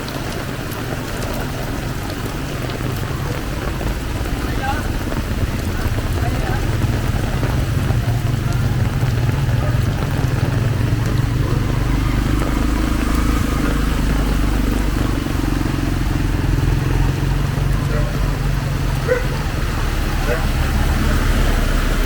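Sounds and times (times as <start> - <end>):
rain hissing: 0.0 - 22.0
vehicle engines rumbling: 0.0 - 22.0.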